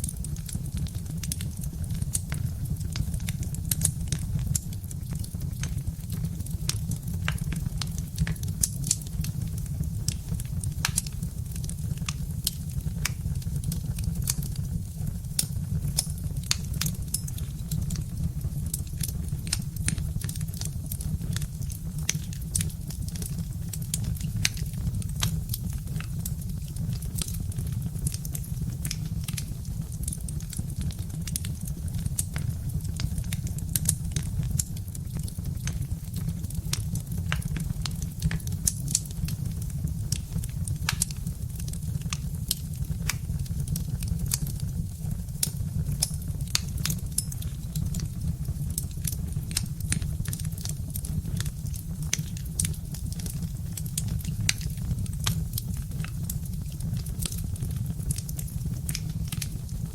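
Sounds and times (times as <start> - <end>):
fire crackling and popping: 0.0 - 59.9
low rumble of burning: 0.0 - 59.9.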